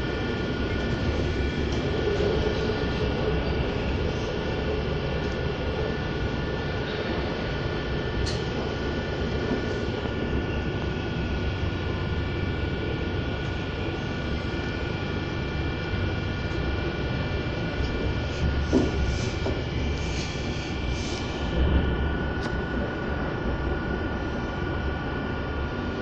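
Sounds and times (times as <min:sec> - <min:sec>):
high whine: 0:00.0 - 0:26.0
train engine and wheels rumbling: 0:00.0 - 0:26.0.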